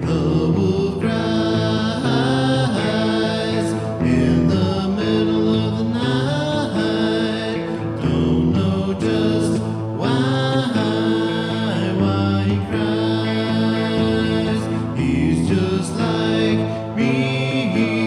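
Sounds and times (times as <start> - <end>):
voices singing in harmony: 0.0 - 18.0.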